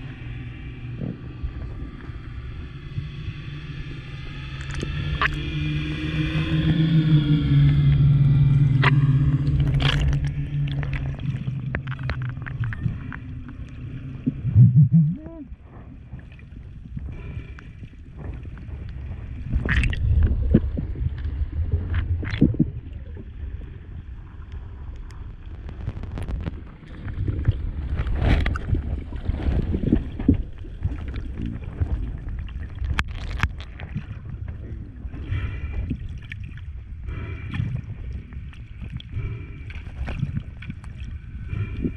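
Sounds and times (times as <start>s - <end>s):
muffled underwater noise: 0.0s - 16.4s, 17.0s - 27.0s, 30.2s - 36.1s, 36.8s - 41.9s
low hum with overtones: 0.0s - 41.9s.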